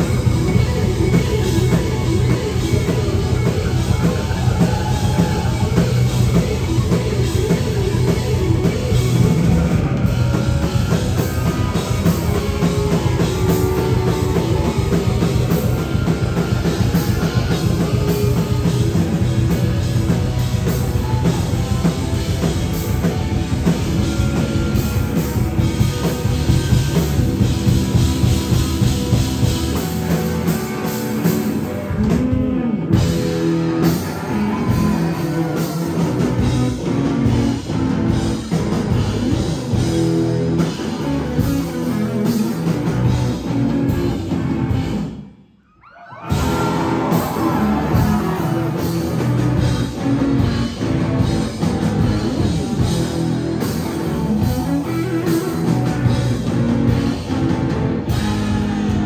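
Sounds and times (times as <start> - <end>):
rock band playing: 0.0 - 45.4, 46.1 - 59.0.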